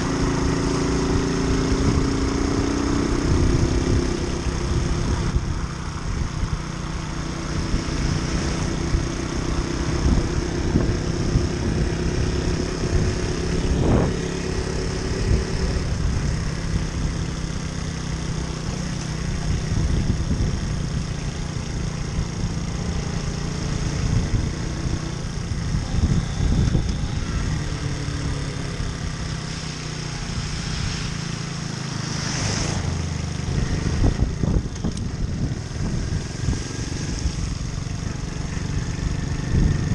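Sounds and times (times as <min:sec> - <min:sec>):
moped engine running: 0:00.0 - 0:39.9
wind and road noise: 0:00.0 - 0:39.9.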